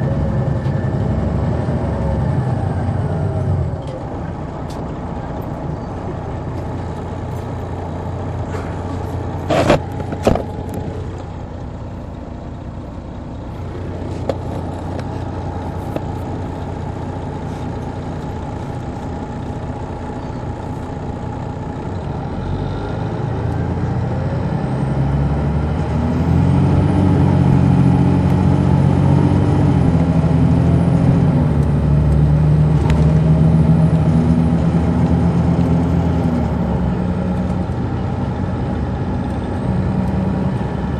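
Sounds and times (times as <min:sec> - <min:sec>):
diesel coach engine running: 0:00.0 - 0:40.9.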